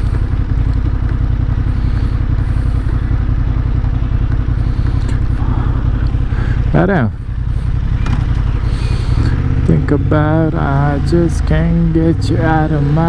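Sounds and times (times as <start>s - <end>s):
motorcycle engine running: 0.0s - 13.0s
road noise rumble: 0.0s - 13.0s.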